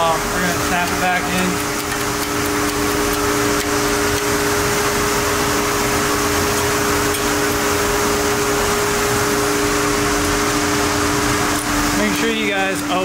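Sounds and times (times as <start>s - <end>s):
machine hum with droning tones: 0.0s - 13.0s.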